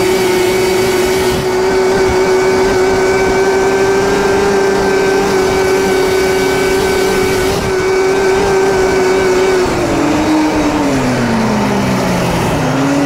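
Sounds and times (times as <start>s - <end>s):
snowmobile two-stroke engine: 0.0s - 13.0s.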